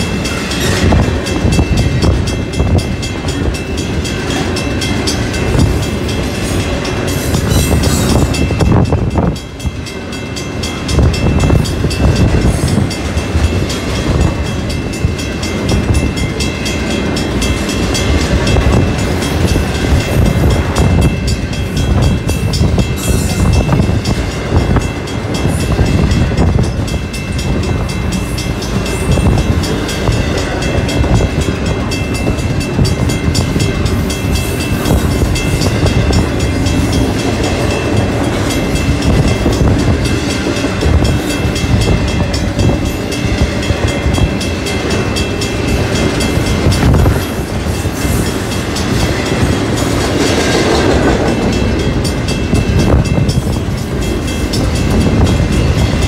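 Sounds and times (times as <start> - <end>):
freight train passing: 0.0 - 56.0
wheels clattering on rails: 0.0 - 56.0.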